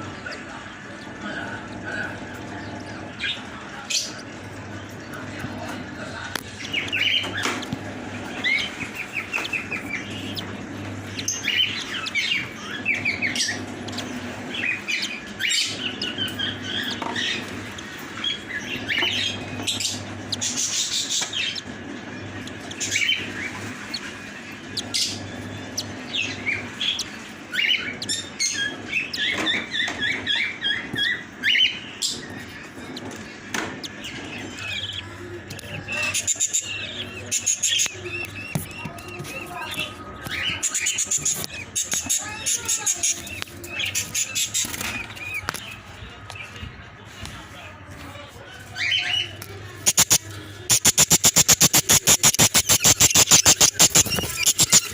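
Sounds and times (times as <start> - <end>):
cage birds chirping: 0.0 - 54.9.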